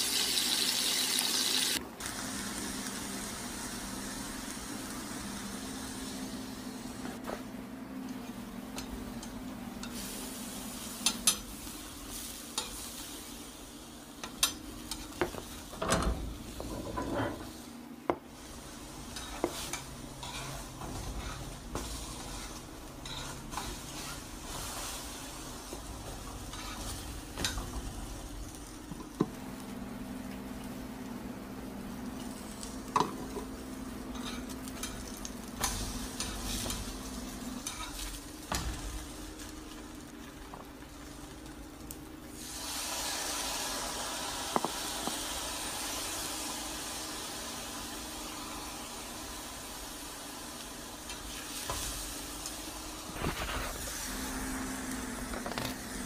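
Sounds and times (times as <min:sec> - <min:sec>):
food sizzling in a pan: 0:00.0 - 0:07.3, 0:08.2 - 0:31.0, 0:31.6 - 0:56.0.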